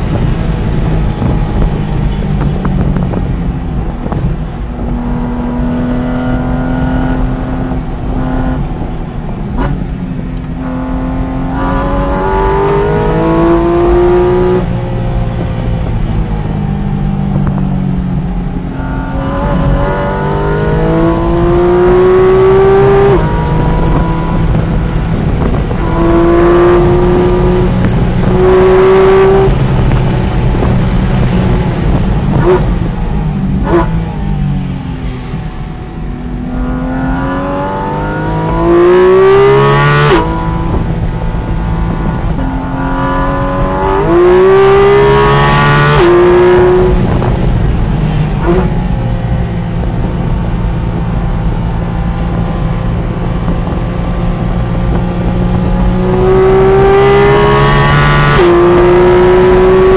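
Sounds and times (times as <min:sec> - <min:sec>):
road and wind noise: 0:00.0 - 0:59.9
sports car engine accelerating: 0:00.0 - 0:59.9.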